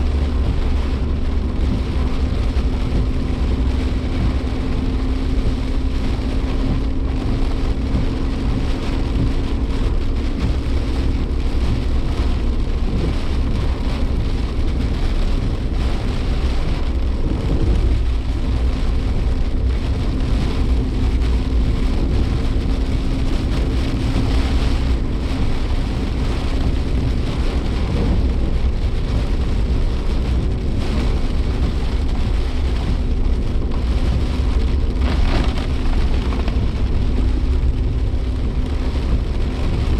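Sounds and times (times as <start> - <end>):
car engine and road noise: 0.0 - 39.9
rain beating on car: 0.0 - 39.9.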